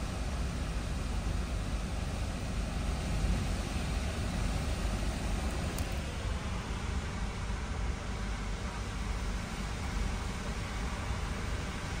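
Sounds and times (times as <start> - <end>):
wind and rain buffeting a car: 0.0 - 11.9.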